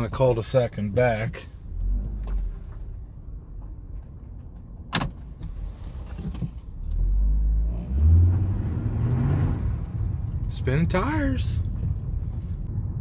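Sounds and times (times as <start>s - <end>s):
car engine accelerating: 1.2s - 4.7s, 5.4s - 13.0s.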